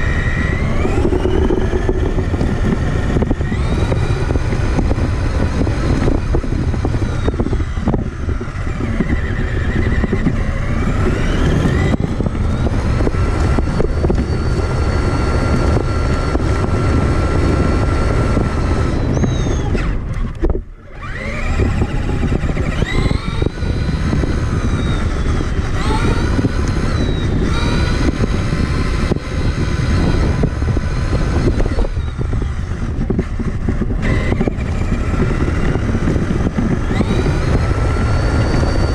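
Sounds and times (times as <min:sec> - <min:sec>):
electric motor and gearbox whine: 0:00.0 - 0:38.9
rumble of tyres on terrain: 0:00.0 - 0:38.9
wind: 0:00.0 - 0:38.9.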